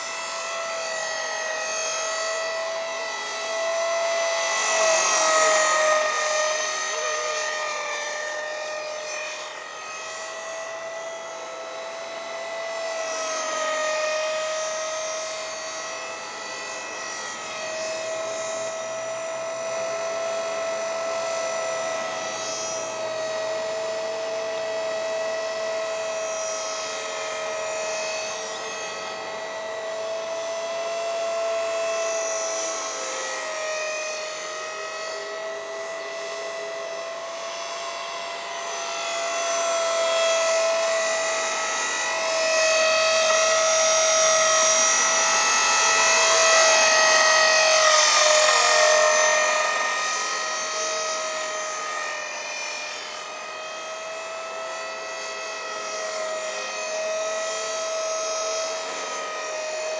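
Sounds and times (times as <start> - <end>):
rc helicopter whine: 0.0 - 59.9.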